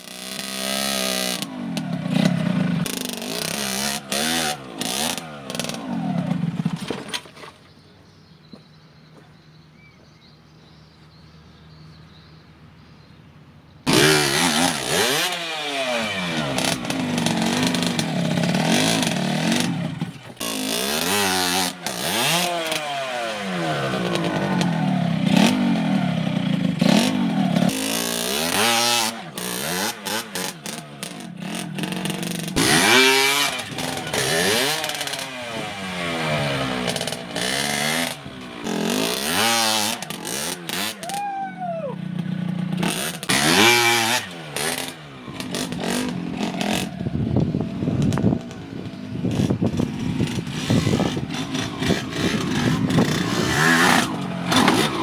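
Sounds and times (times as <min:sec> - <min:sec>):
motorcycle engine revving: 0:00.0 - 0:08.4, 0:13.8 - 0:55.0.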